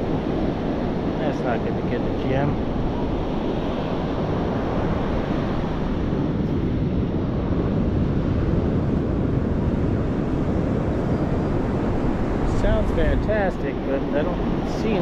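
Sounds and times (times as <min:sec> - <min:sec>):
ocean surf: 0:00.0 - 0:15.0
wind rumbling on microphone: 0:00.0 - 0:15.0.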